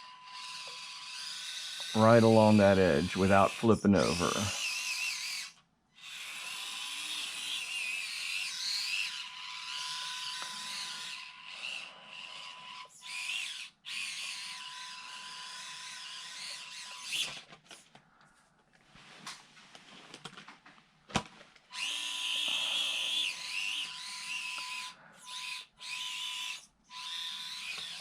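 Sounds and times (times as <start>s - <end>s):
small electric motor whining: 0.0s - 17.8s, 21.7s - 28.0s.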